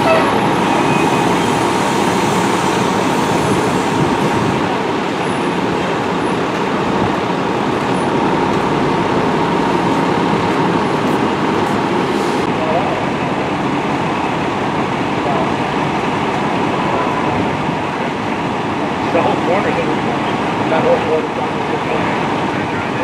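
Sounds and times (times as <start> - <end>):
diesel engines idling: 0.0 - 23.0.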